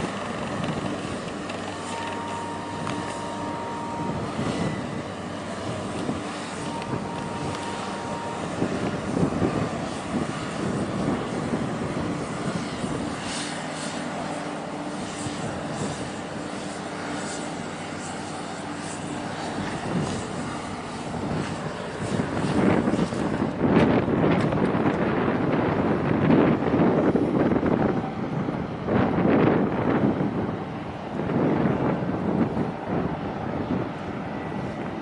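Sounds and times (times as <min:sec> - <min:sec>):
ship engine droning: 0:00.0 - 0:35.0
wind buffeting microphone: 0:00.0 - 0:35.0.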